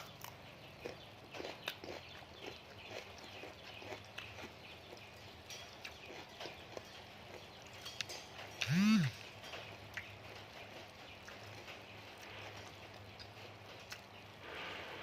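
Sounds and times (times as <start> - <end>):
chewing crunchy salad: 0.0 - 14.9.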